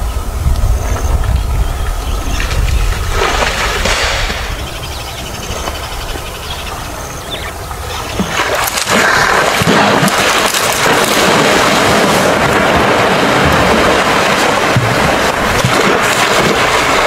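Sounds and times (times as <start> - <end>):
water splashing and churning: 2.2 - 17.0.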